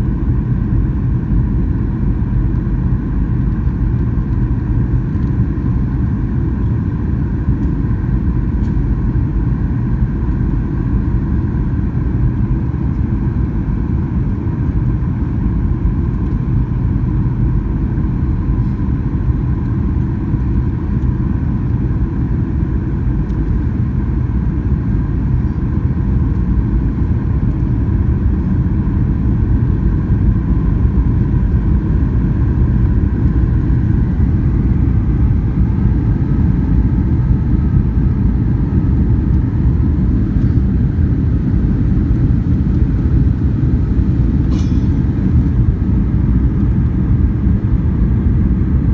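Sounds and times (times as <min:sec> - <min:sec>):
faint steady hum: 0:00.0 - 0:48.9
jet engine and airflow rumble: 0:00.0 - 0:48.9.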